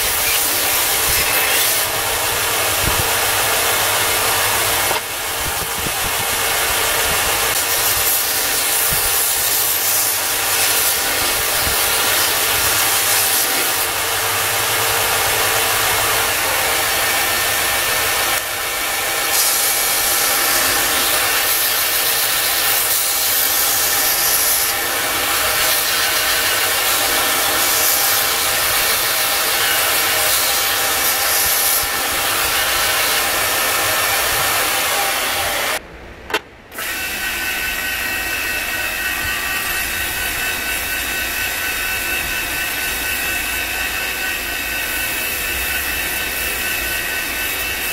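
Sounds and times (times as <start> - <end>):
belt grinder grinding blade: 0.0 - 35.8, 36.7 - 47.9
grinder motor hum: 0.0 - 35.8, 36.8 - 47.9.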